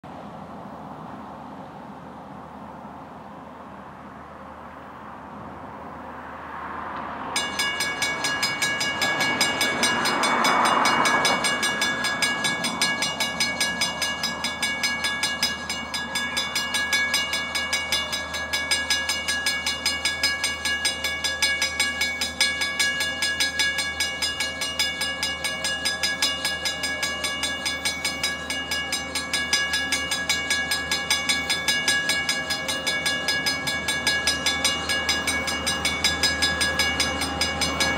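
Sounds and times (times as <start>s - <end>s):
crossing warning bell ringing: 7.2s - 37.9s.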